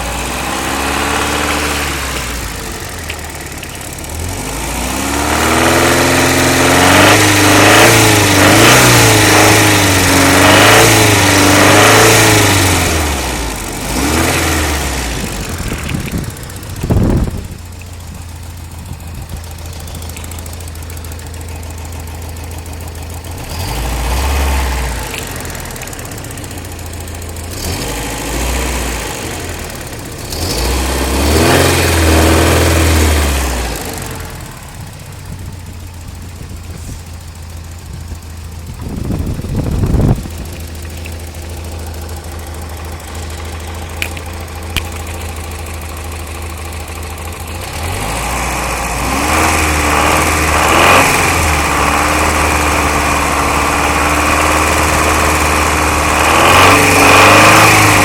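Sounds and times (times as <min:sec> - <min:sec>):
engine idling and revving: 0:00.0 - 0:58.0
engine rattle: 0:00.0 - 0:58.0.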